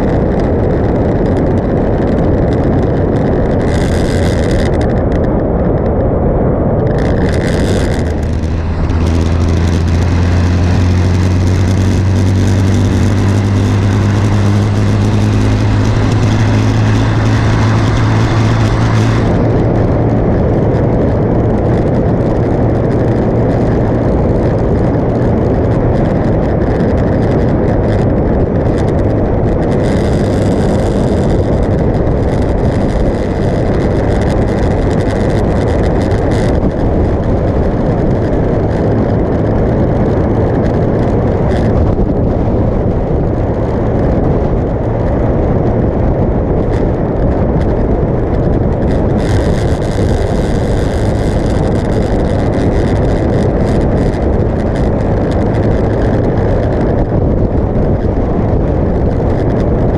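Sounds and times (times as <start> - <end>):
motorcycle engine hum: 0.0 - 59.9
wind rushing over microphone: 0.0 - 59.9.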